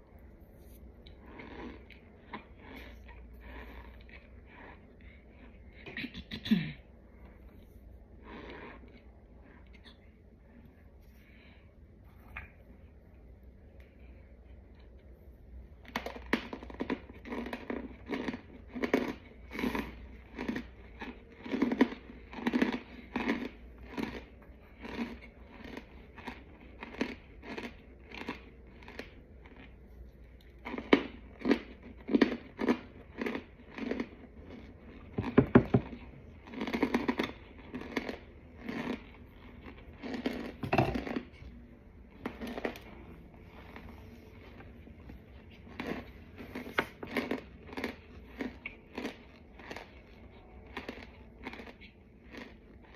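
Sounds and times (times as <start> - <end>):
person chewing crunchy food: 0.0 - 6.0, 7.2 - 10.6, 13.7 - 52.9.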